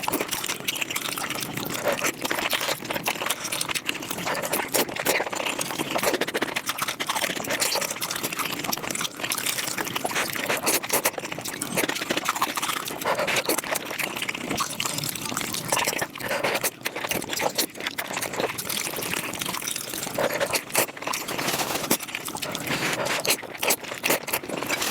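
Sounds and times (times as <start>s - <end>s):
wet chewing and slurping: 0.0s - 24.9s.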